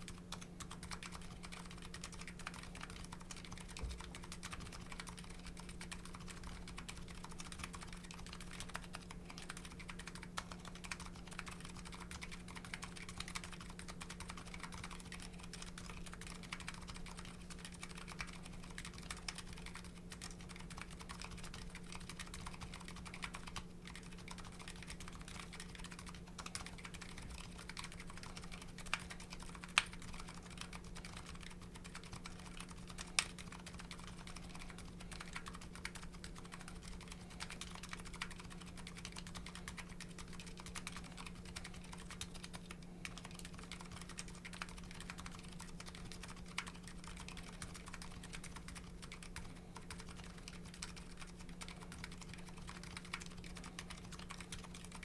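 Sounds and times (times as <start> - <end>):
keyboard typing: 0.0 - 55.0.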